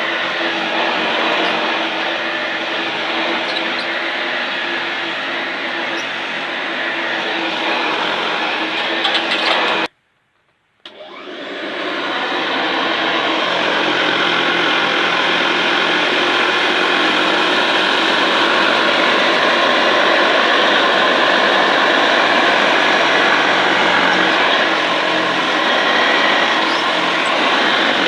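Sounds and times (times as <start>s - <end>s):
vacuum cleaner running: 0.0s - 9.9s, 10.9s - 28.0s.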